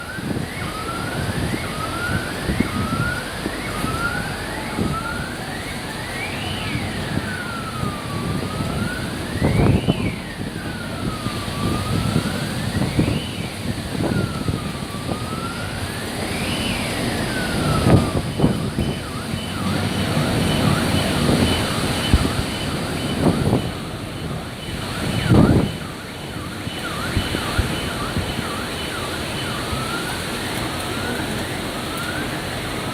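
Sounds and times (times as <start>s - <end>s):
emergency vehicle siren: 0.0s - 32.9s
heavy rain hissing: 0.1s - 32.9s.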